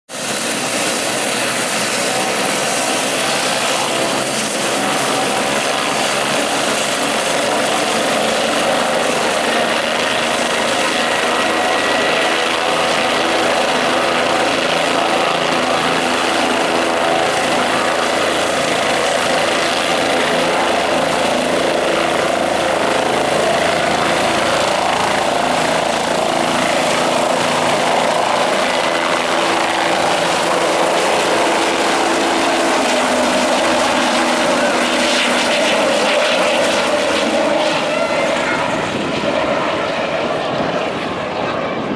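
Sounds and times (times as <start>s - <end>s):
helicopter engine and rotor: 0.1s - 41.9s
high turbine whine: 0.1s - 41.9s.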